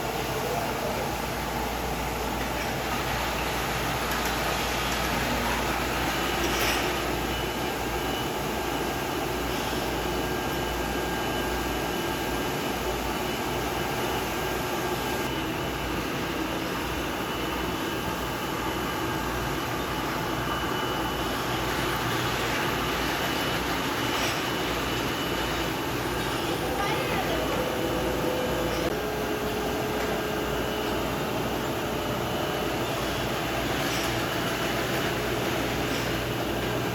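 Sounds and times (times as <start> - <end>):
machinery hum and hiss: 0.0 - 36.9.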